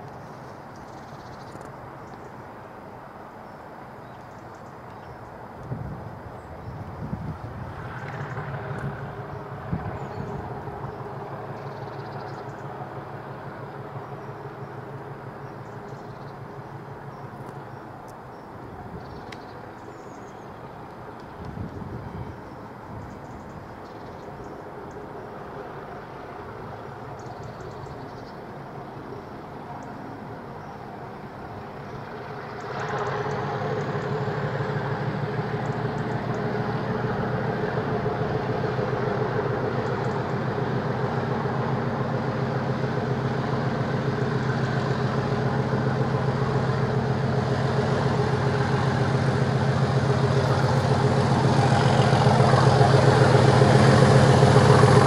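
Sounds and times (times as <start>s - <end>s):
diesel locomotive engine: 0.0s - 55.0s.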